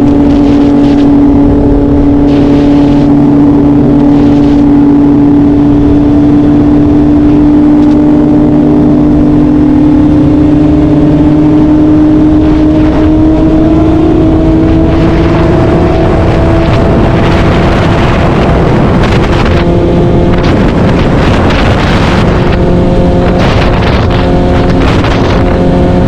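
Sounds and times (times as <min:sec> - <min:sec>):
motorcycle engine at high revs: 0:00.0 - 0:26.0.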